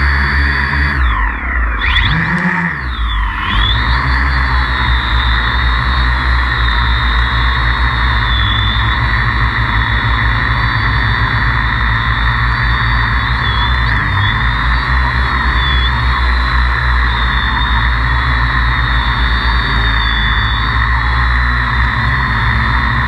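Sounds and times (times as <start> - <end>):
drone motors and propellers whining: 0.0 - 23.0
heavy low rumble: 0.0 - 23.0.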